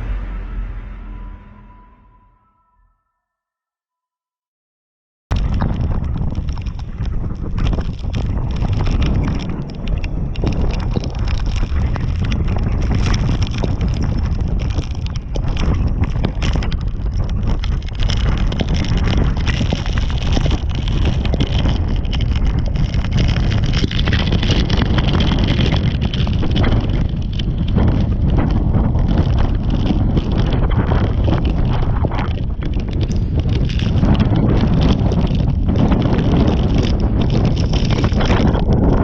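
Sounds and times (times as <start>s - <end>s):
small irregular crackles: 5.3s - 39.0s
wind buffeting microphone: 5.3s - 39.0s.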